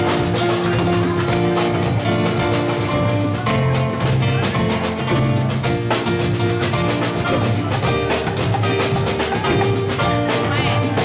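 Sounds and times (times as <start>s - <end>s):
drum kit and percussion beat: 0.0s - 11.0s
live dance band playing: 0.0s - 11.0s.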